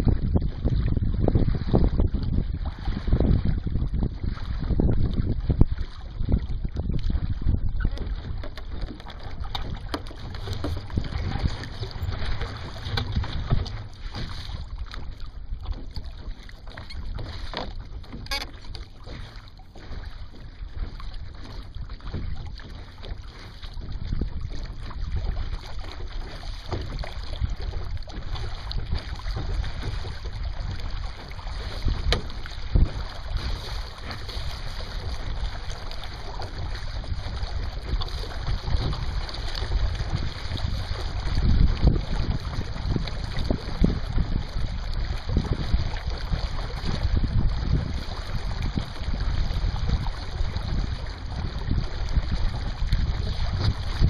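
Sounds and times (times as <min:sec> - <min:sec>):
water splashing along a hull: 0:00.0 - 0:54.0
wind buffeting microphone: 0:00.0 - 0:54.0.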